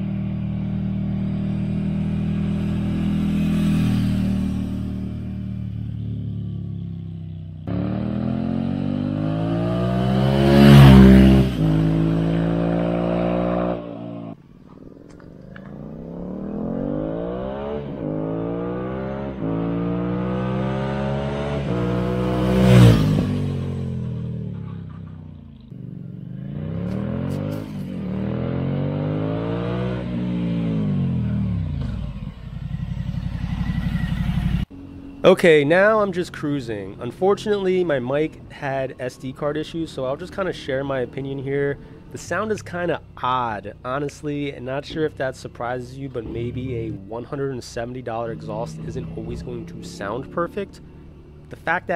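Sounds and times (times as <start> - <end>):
motorcycle engine passing by: 0.0 - 51.9.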